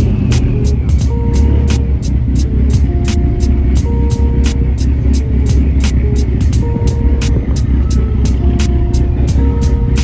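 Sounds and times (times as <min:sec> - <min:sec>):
bass-heavy electronic music: 0:00.0 - 0:10.0.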